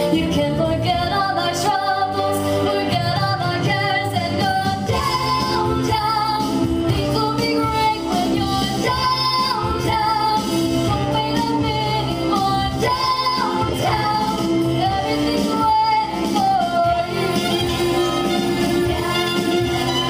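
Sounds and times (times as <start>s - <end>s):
instrumental accompaniment: 0.0s - 20.0s
woman singing into microphone: 0.0s - 20.0s.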